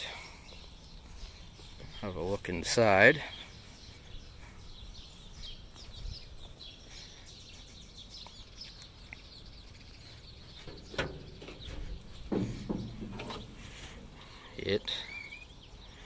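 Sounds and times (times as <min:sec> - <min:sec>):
faint birds chirping: 0:00.0 - 0:16.0
low outdoor background noise: 0:00.0 - 0:16.0.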